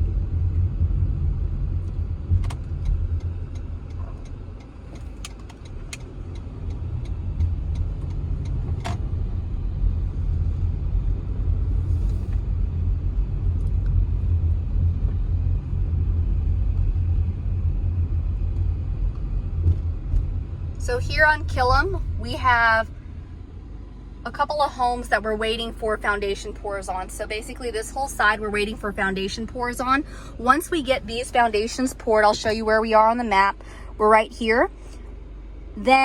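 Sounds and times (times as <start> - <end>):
car driving slowly: 0.0 - 36.0.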